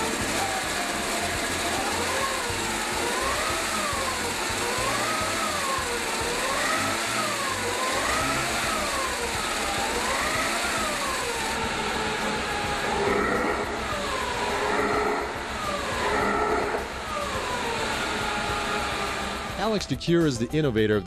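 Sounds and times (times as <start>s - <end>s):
rising and falling tone: 0.0s - 19.8s
engine running steadily: 0.0s - 20.6s.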